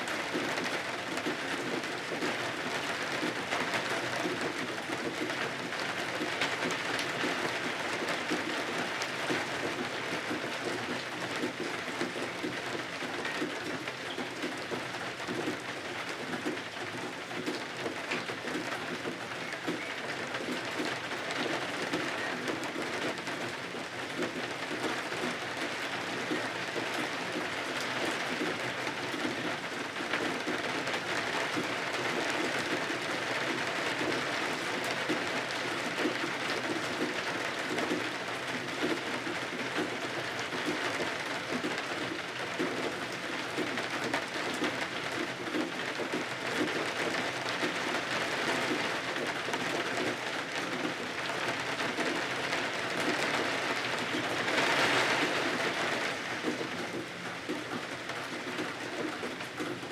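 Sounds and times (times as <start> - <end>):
rain on windows and roof: 0.0 - 59.9.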